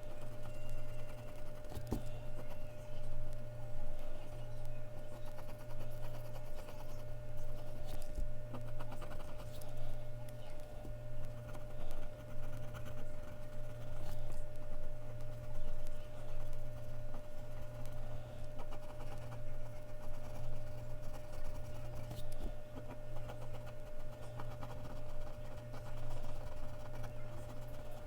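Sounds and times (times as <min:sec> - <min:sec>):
pencil scratching on paper: 0:00.0 - 0:03.2, 0:04.9 - 0:09.8, 0:11.3 - 0:28.0
electrical hum: 0:00.0 - 0:28.0.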